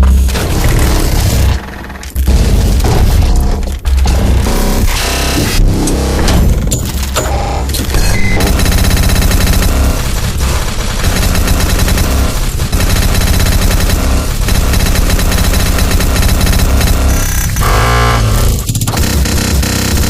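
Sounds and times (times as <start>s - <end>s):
rapid electronic robotic rattle: 0.0s - 20.0s.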